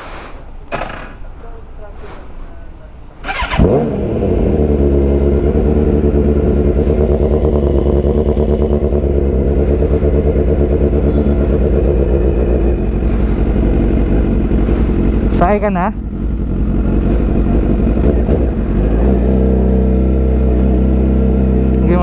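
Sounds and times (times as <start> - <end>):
motorcycle engine idling: 3.2 - 22.0.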